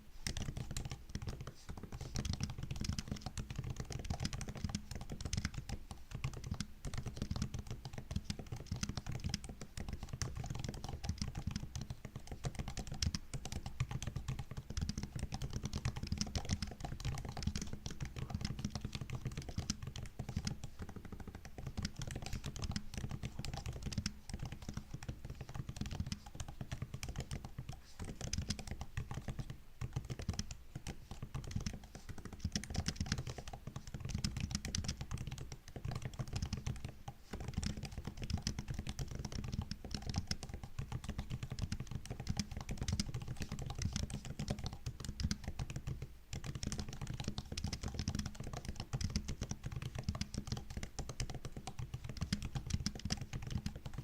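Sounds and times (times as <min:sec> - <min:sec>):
typing on laptop keyboard: 0:00.0 - 0:54.0.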